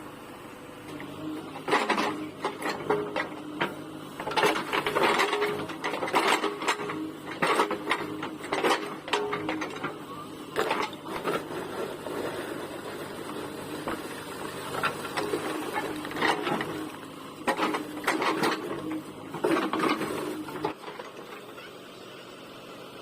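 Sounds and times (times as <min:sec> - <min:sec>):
diesel engine humming: 0:00.0 - 0:23.0
bricks and rubble clattering: 0:01.6 - 0:14.0, 0:14.6 - 0:21.4.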